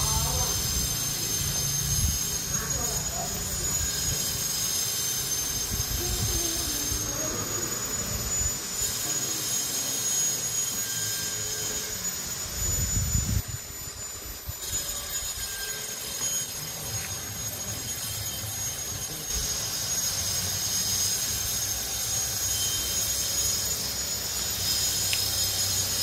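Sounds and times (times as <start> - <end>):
router whining: 0.0 - 26.0.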